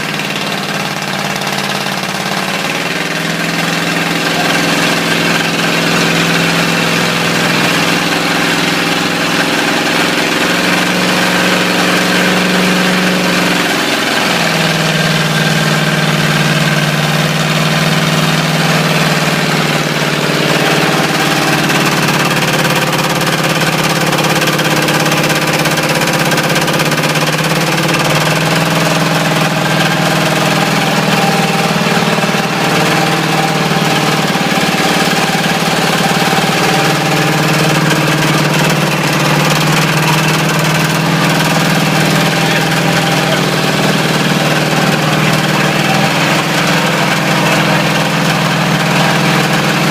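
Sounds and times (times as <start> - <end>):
engine running with knocking: 0.0 - 49.9.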